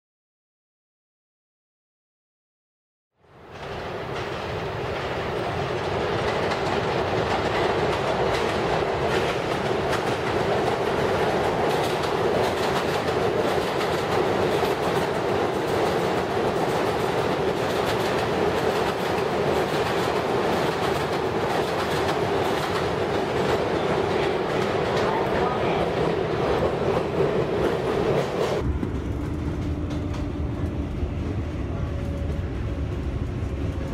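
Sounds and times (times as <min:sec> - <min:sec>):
train rumbling on elevated track: 0:03.2 - 0:33.9.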